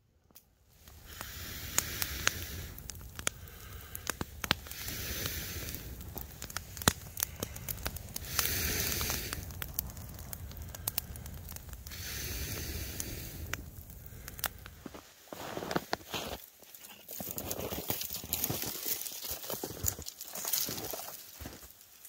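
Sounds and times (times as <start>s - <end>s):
campfire pops and crackles: 0.2s - 22.0s
fire hissing: 0.7s - 22.0s.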